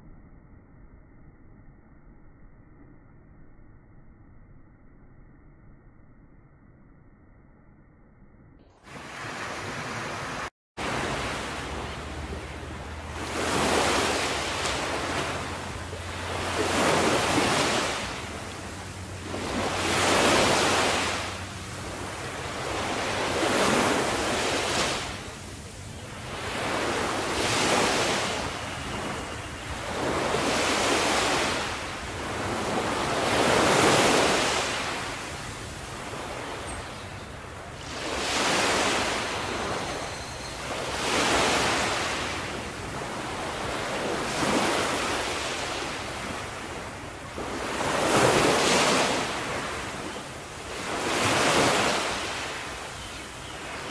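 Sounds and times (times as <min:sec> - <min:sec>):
sea waves washing onto shore: 0:08.8 - 0:40.0, 0:40.6 - 0:53.9.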